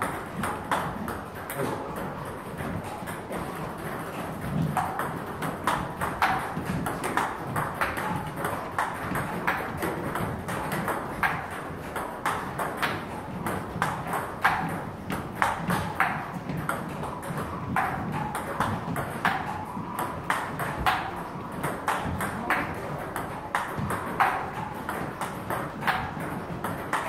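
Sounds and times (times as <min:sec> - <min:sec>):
table tennis ball hits and bounces: 0:00.0 - 0:27.0.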